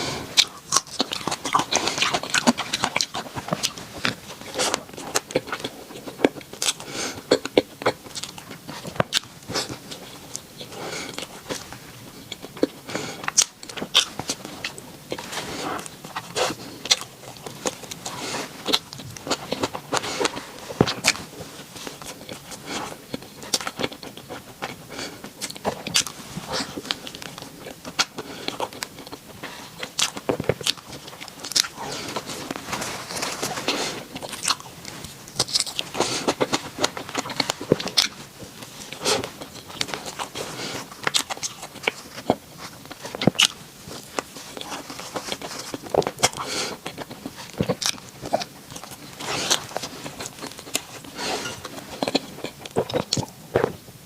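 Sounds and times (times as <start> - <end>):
bread crunching and chewing: 0.0 - 54.0.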